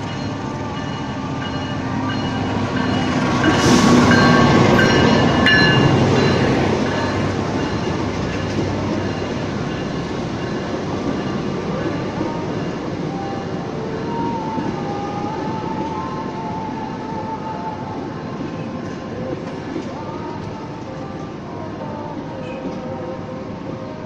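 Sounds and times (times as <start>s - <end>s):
diesel locomotive passing: 0.0s - 24.0s
train coaches rumbling past: 0.0s - 24.0s.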